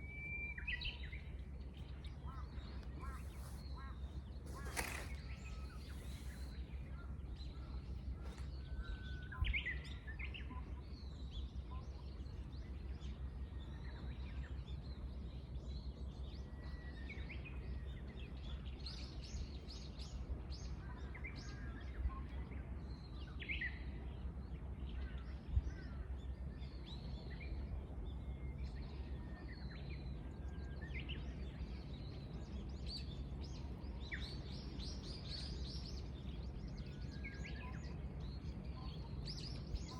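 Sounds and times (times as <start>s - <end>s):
low background rumble: 0.0s - 39.9s
songbirds chirping and trilling: 0.0s - 39.9s.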